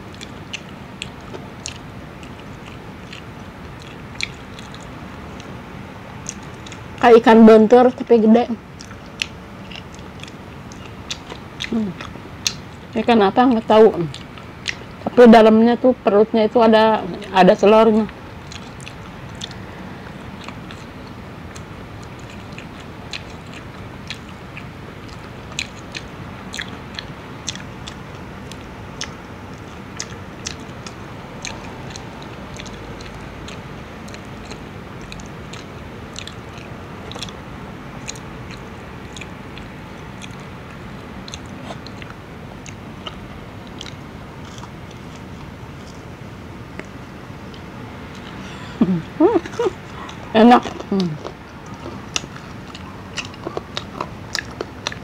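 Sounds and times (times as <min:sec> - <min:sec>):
chewing: 0:00.0 - 0:07.0, 0:08.6 - 0:15.1, 0:17.9 - 0:55.0
steady background hiss: 0:00.0 - 0:55.0.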